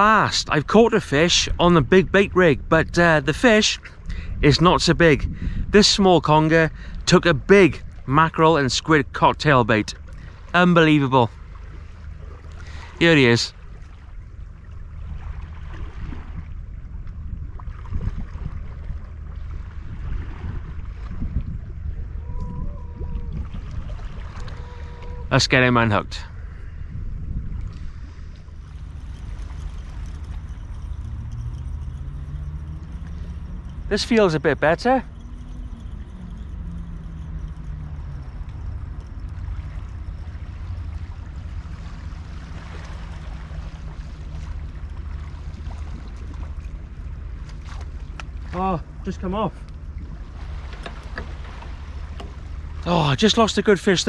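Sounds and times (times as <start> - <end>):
wind buffeting microphone: 0.0 - 10.6, 14.2 - 25.3, 26.1 - 49.0
boat engine hum: 0.0 - 54.0
sea wash: 0.0 - 54.0.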